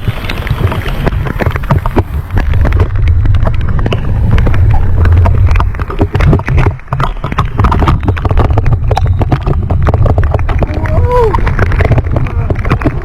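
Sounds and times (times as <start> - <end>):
sharp taps and clicks: 0.0 - 13.0
wind rumble on microphone: 0.0 - 13.0.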